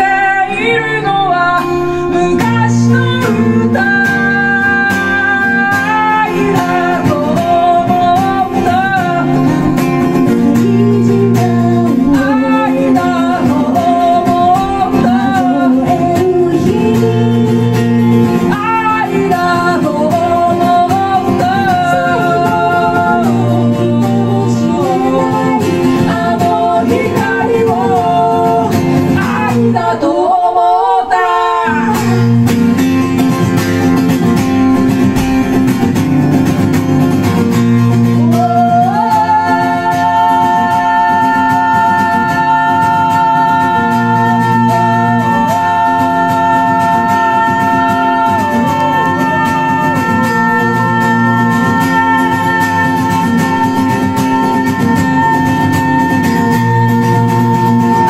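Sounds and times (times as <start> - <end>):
people singing into microphones: 0.0 - 33.1, 37.8 - 58.0
acoustic guitar strummed: 0.0 - 58.0.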